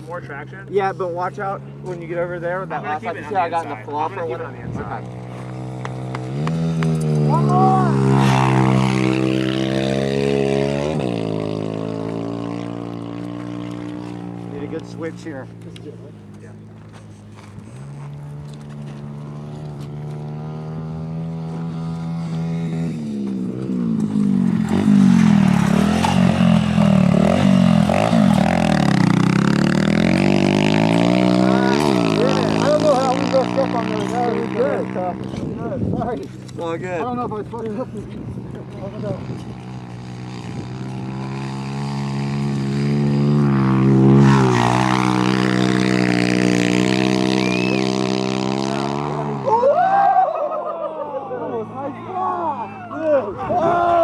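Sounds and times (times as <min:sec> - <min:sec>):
small motorbike engine revving: 0:04.4 - 0:15.6, 0:16.7 - 0:36.8, 0:37.8 - 0:50.3.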